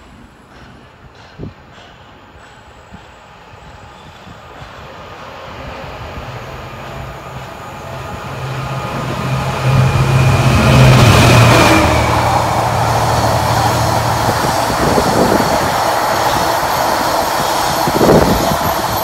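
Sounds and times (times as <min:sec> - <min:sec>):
diesel locomotive engine hauling train: 0:00.0 - 0:19.0.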